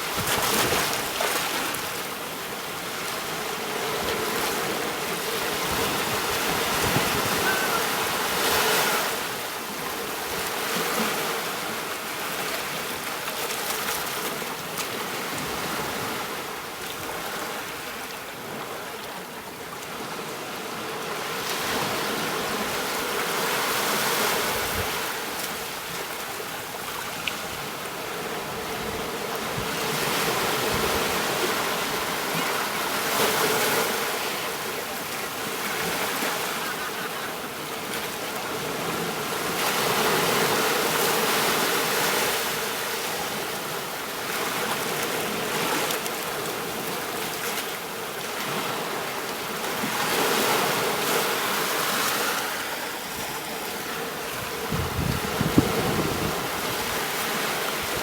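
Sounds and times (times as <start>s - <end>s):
ocean surf washing onto beach: 0.0s - 18.8s, 19.5s - 58.0s.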